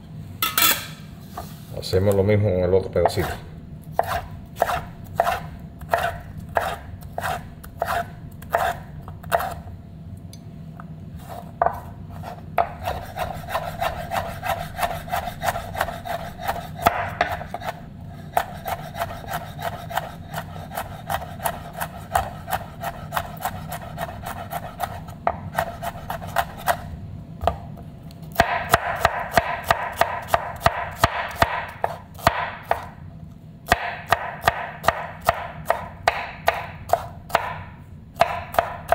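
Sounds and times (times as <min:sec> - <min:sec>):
knife chopping on cutting board: 0:04.0 - 0:09.6, 0:11.3 - 0:27.6, 0:28.3 - 0:32.9, 0:33.6 - 0:38.9.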